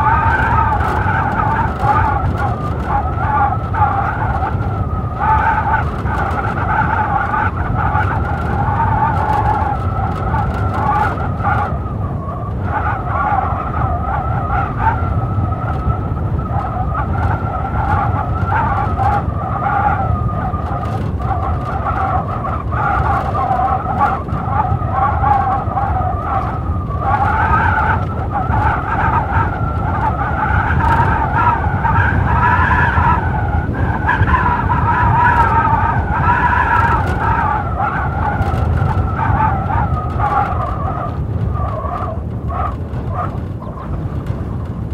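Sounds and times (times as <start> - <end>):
blizzard wind howling: 0.0 - 44.9
low rumble of gusts: 0.0 - 44.9.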